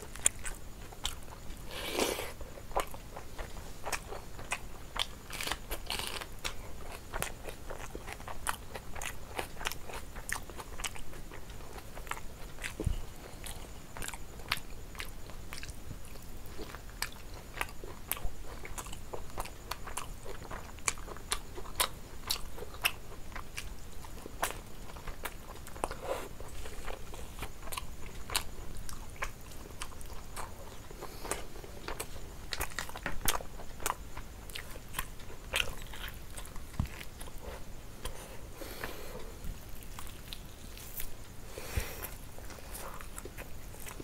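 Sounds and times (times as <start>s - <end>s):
chewing and biting chicken: 0.0s - 41.4s.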